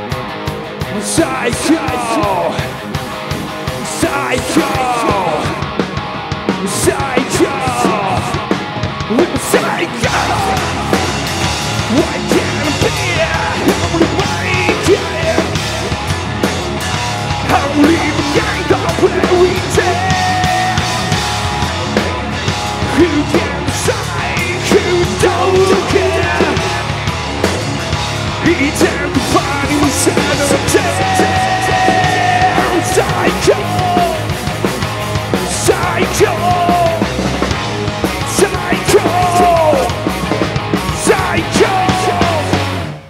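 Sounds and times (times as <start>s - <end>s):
bass guitar: 0.0s - 43.0s
distorted electric guitar: 0.0s - 43.0s
pounding drums: 0.2s - 43.0s.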